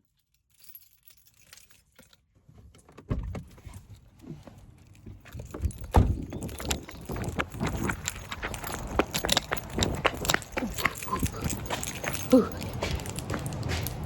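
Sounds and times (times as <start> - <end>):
keys jangling: 0.0 - 2.3, 3.4 - 14.0
person getting out of car: 2.4 - 14.0.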